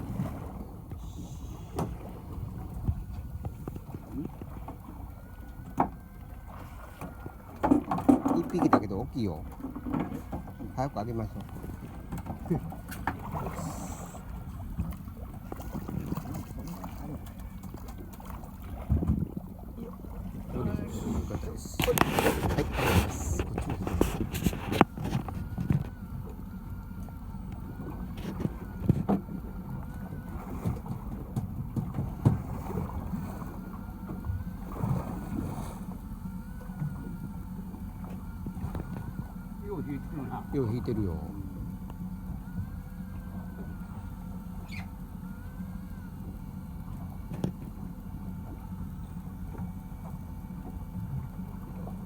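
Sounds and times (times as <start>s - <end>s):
boat engine low rumble: 0.0s - 52.0s
wind: 0.0s - 52.0s.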